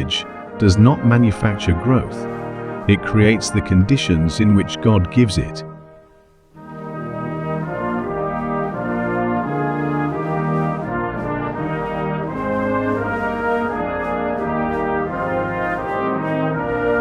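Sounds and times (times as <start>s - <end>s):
brass instruments playing chords: 0.0s - 17.0s.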